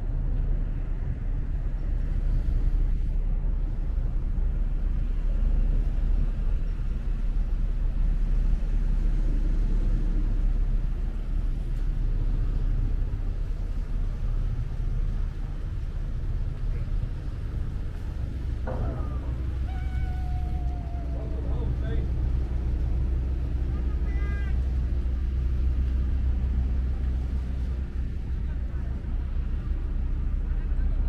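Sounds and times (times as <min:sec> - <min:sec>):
ferry engines rumbling: 0:00.0 - 0:31.0.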